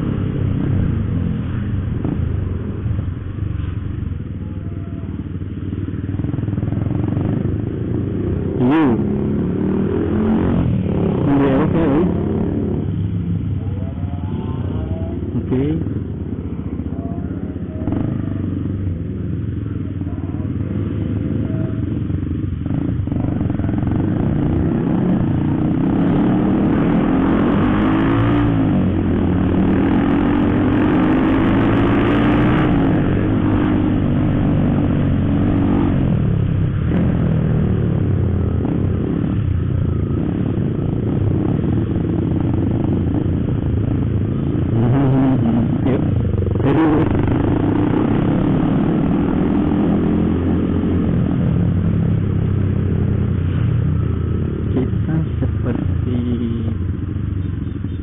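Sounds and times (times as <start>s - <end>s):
road noise: 0.0s - 58.0s
motorcycle engine accelerating: 4.1s - 58.0s.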